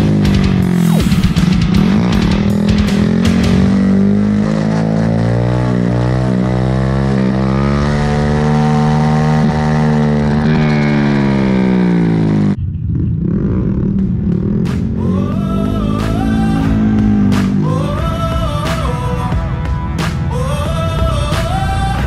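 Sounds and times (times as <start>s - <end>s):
distant rough engine: 0.0s - 19.4s
motorcycle engine running: 0.0s - 22.0s.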